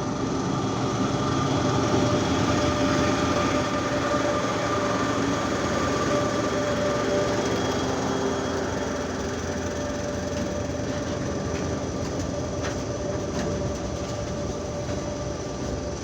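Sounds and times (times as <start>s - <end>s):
droning tones: 0.0s - 16.0s
freight train rumbling by: 0.0s - 16.0s.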